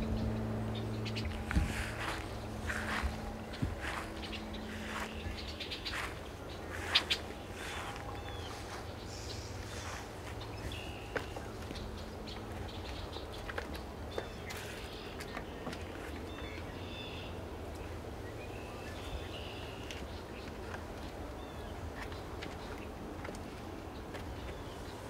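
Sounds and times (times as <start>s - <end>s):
birds chirping: 0.0s - 25.0s
low background rumble: 0.0s - 25.0s.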